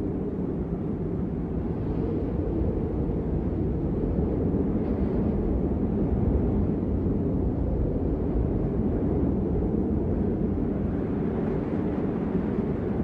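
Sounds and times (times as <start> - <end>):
blizzard wind: 0.0 - 13.0.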